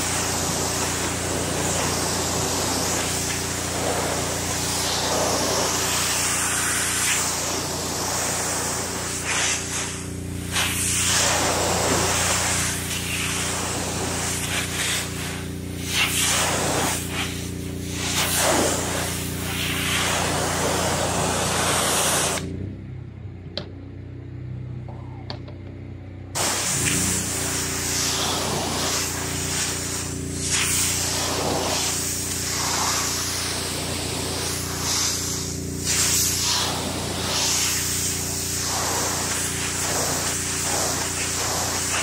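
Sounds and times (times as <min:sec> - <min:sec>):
water spraying on glass: 0:00.0 - 0:22.4, 0:26.4 - 0:42.0
steady machine hum: 0:00.0 - 0:42.0.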